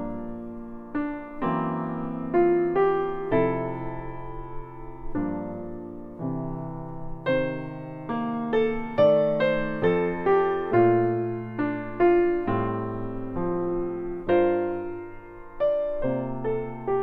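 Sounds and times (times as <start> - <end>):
gentle solo piano music: 0.0 - 17.0.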